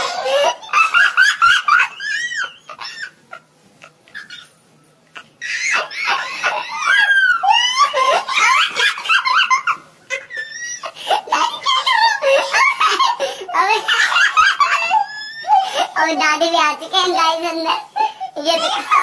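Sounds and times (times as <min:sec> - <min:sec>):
people laughing hard: 0:00.0 - 0:04.6, 0:05.2 - 0:15.9.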